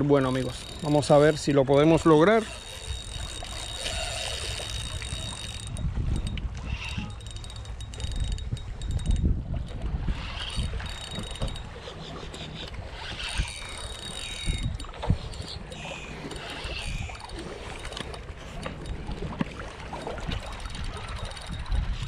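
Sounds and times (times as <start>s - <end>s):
fishing reel cranking: 0.0s - 22.0s
wind buffeting microphone: 0.0s - 22.0s.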